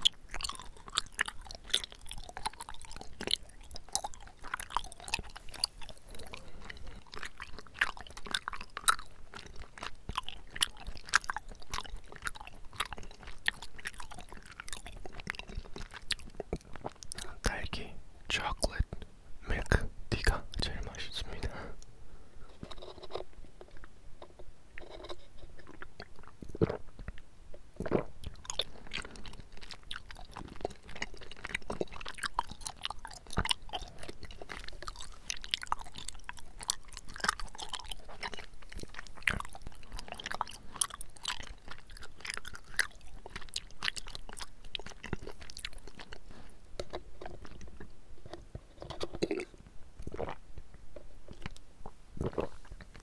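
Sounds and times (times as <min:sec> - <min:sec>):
person chewing: 0:00.0 - 0:18.8, 0:19.5 - 0:53.0.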